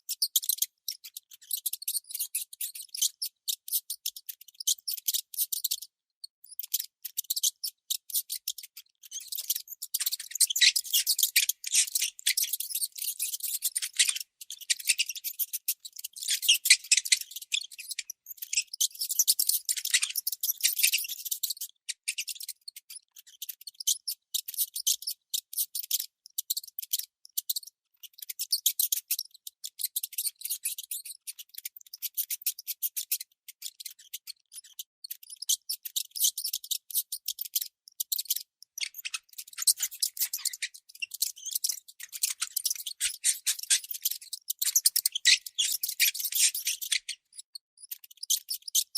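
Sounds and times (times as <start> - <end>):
baby mouse squeaking: 0.0 - 48.9.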